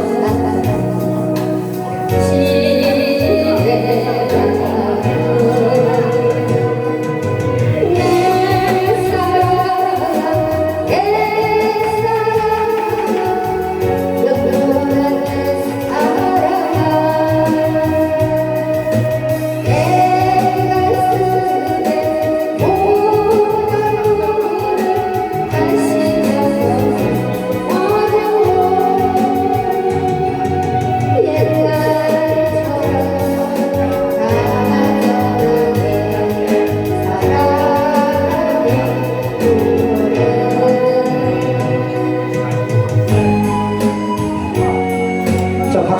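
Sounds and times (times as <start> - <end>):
electronic organ and guitar: 0.0 - 45.9
slow song with vibrato singing: 0.0 - 45.9.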